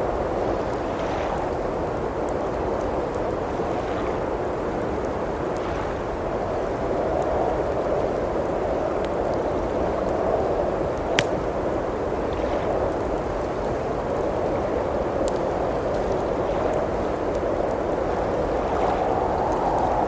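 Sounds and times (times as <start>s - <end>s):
blizzard wind rushing: 0.0s - 20.0s
fire popping: 0.0s - 20.0s
wood fire crackling: 0.0s - 20.0s.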